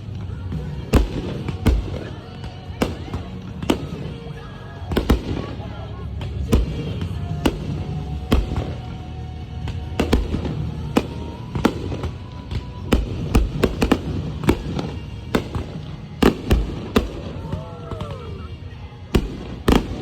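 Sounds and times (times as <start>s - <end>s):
fireworks bangs: 0.0s - 9.0s, 9.6s - 18.5s, 19.1s - 20.0s.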